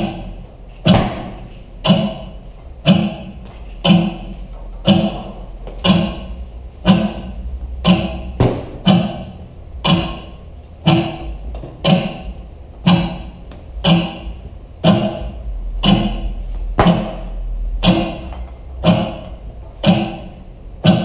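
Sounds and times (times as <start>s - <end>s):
heavy echoing percussive thuds: 0.0s - 21.0s.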